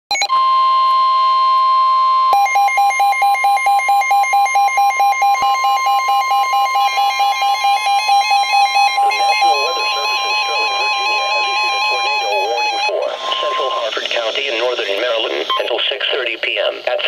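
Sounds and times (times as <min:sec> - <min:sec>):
shrill alarm tone: 0:00.2 - 0:15.8
rapid electronic beeping: 0:02.3 - 0:17.0.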